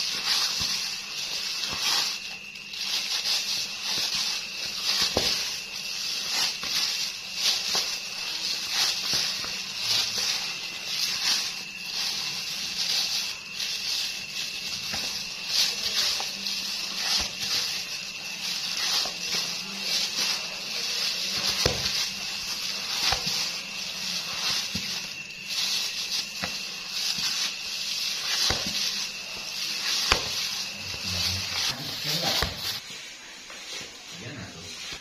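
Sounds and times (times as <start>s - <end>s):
dough being kneaded by hand: 0.0s - 35.0s.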